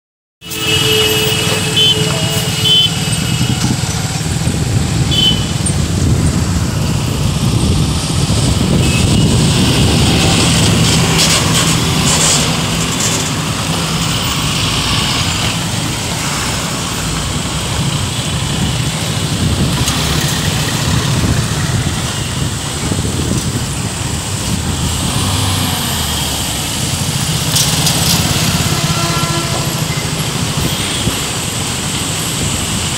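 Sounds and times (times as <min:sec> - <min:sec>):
tyres on rough road: 0:00.4 - 0:32.9
truck engines running: 0:00.5 - 0:32.9
motorcycle engines running: 0:00.9 - 0:32.9.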